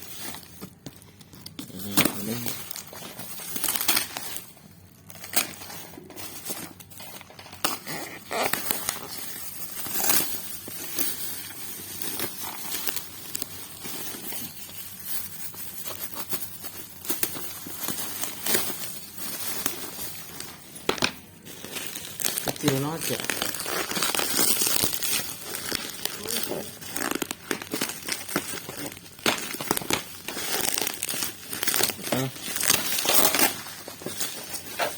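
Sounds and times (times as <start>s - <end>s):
packaging crinkling and rustling: 0.0s - 34.9s.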